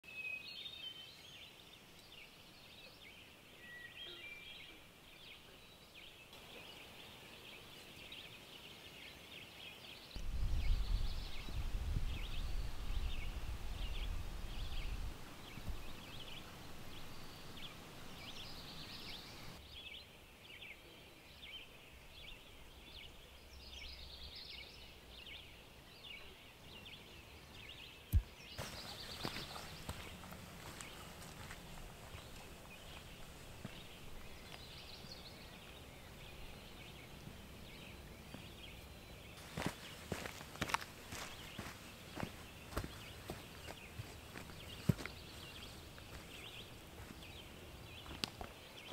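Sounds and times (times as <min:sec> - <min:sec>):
wildlife chirps and trills: 0:00.3 - 0:48.9.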